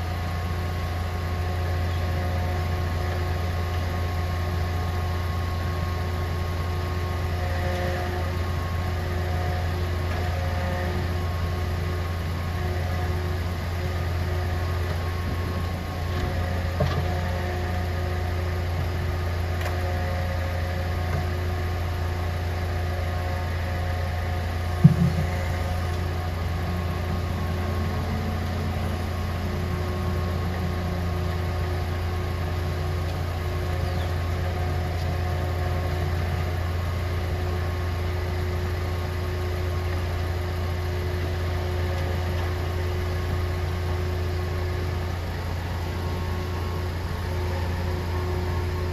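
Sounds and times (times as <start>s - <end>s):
garbage truck engine droning: 0.0s - 48.9s
hydraulic whine: 0.0s - 48.9s.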